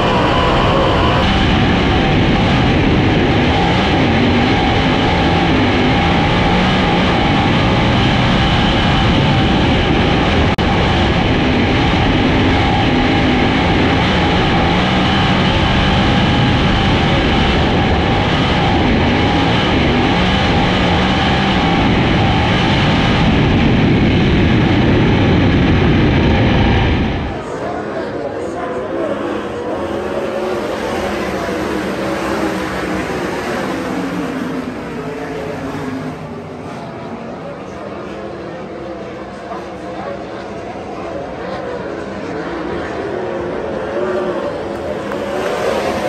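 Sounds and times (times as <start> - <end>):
race car engine at full throttle: 0.0 - 46.0.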